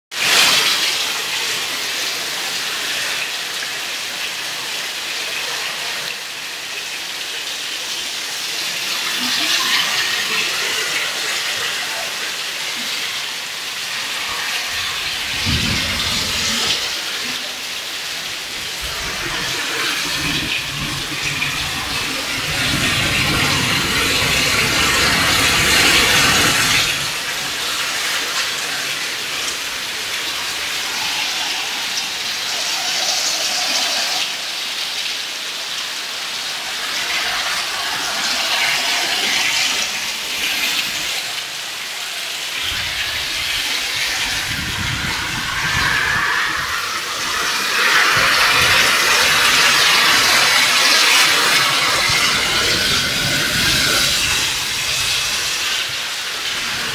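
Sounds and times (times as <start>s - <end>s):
heavy rain falling: 0.1s - 56.9s.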